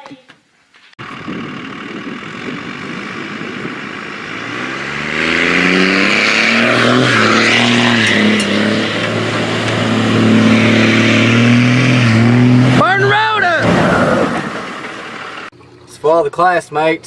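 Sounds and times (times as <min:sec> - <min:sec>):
car engine revving: 0:01.0 - 0:15.5.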